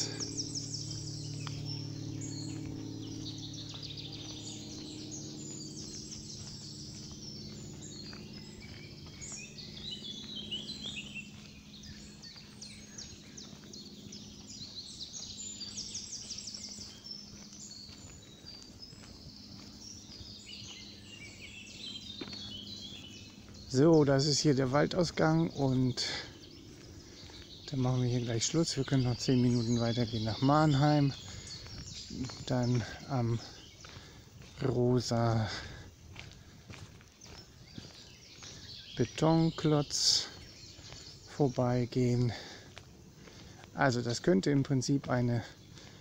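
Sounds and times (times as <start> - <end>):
birds chirping: 0.0 - 46.0
footsteps on paved path: 0.0 - 46.0
steady low hum: 0.0 - 46.0.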